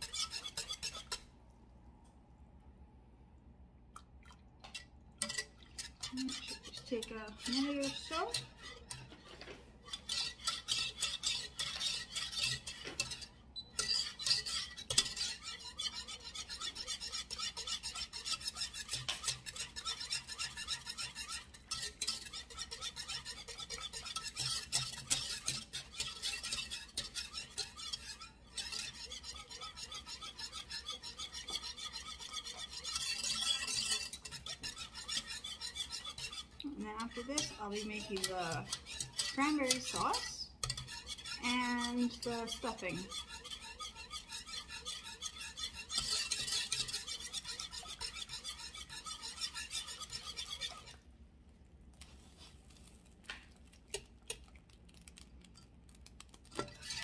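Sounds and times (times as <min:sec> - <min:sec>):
whisk scraping saucepan: 0:00.0 - 0:01.4, 0:04.6 - 0:51.2, 0:51.9 - 0:57.0.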